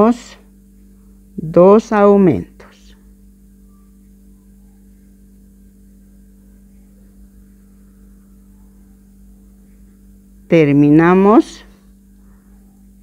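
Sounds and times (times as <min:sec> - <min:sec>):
faint room noise: 0:00.0 - 0:13.0
low electrical hum: 0:00.0 - 0:13.0.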